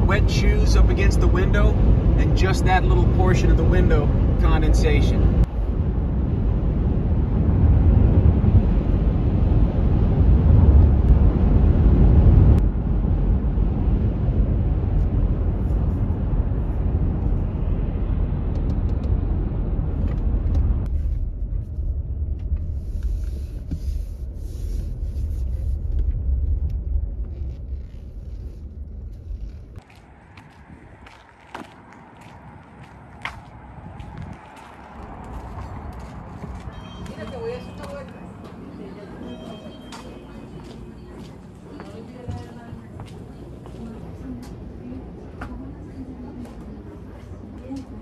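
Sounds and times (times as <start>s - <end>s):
road and tyre noise in car: 0.0s - 48.0s.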